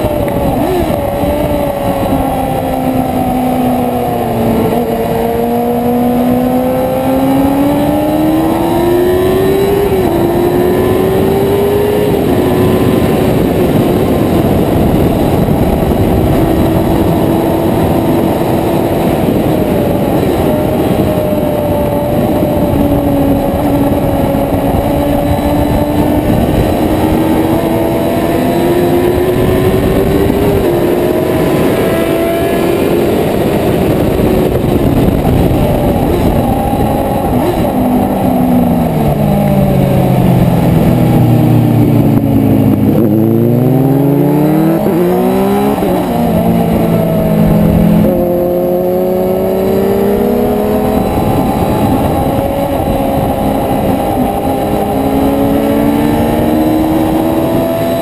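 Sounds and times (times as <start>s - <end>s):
motorcycle engine under load: 0.0s - 58.0s
wind rush over microphone: 0.0s - 58.0s.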